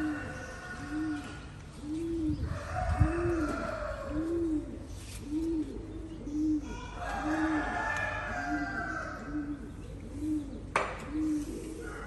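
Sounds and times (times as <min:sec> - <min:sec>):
bird cooing: 0:00.0 - 0:12.0.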